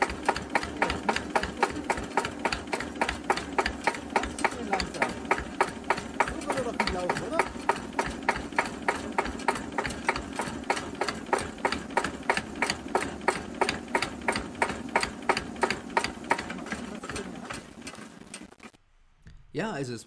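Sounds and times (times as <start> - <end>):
diesel engine slow idle knocking: 0.0 - 18.0.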